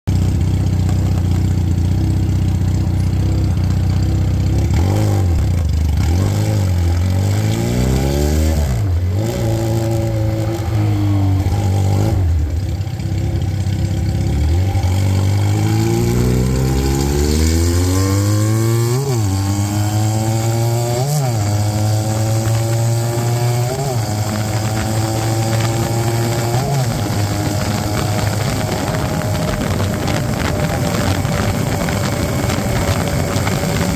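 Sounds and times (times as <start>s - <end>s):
motorcycle engine accelerating: 0.1s - 33.9s.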